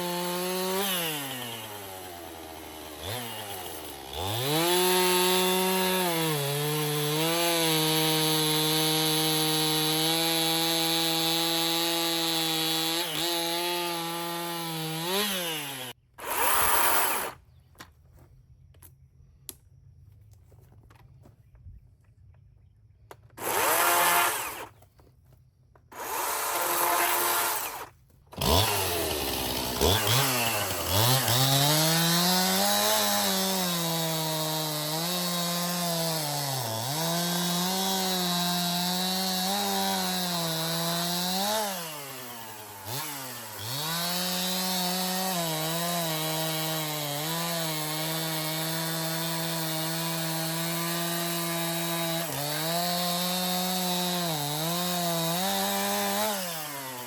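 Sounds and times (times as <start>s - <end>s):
chainsaw cutting log: 0.0s - 17.4s, 23.3s - 25.0s, 25.8s - 57.0s.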